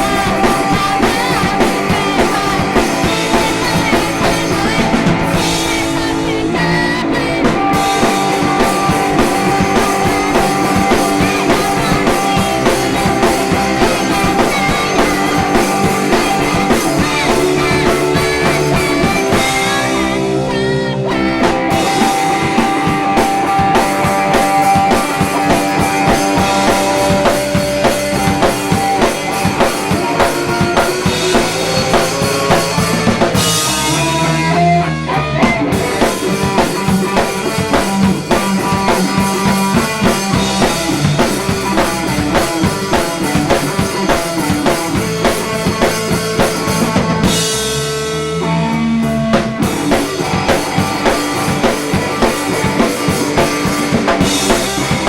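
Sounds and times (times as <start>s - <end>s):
drum kit beat: 0.0s - 55.0s
electric guitar: 0.0s - 55.0s.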